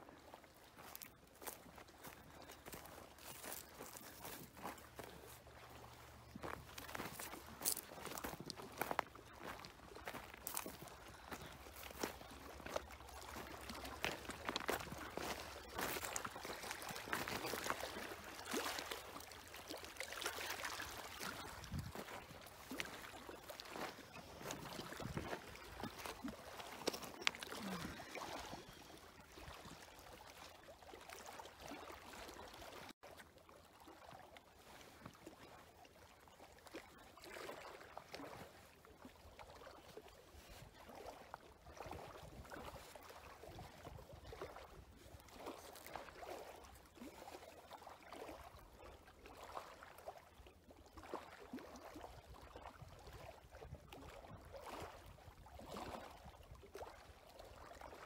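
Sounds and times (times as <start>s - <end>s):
water lapping and trickling: 0.0s - 58.0s
small splashes: 0.1s - 58.0s.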